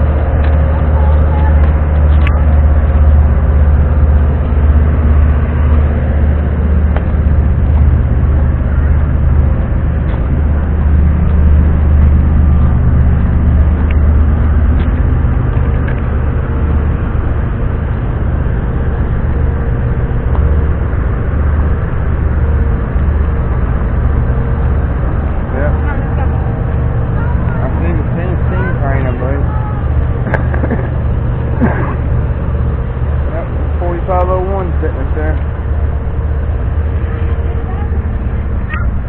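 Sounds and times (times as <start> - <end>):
large engine humming: 0.0 - 39.0.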